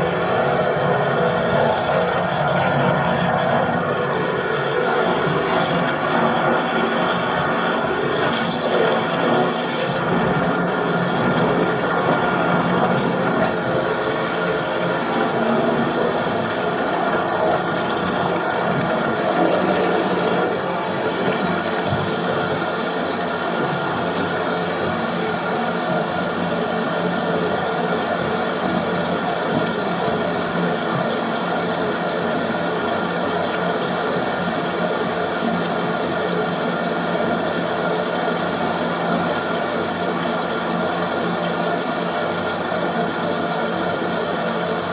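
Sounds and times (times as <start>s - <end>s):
high-pressure washer jetting water: 0.0s - 44.9s.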